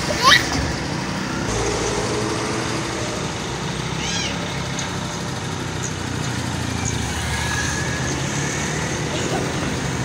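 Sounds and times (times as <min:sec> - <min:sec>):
road traffic rumble: 0:00.0 - 0:10.0
vehicle engine running: 0:00.8 - 0:10.0.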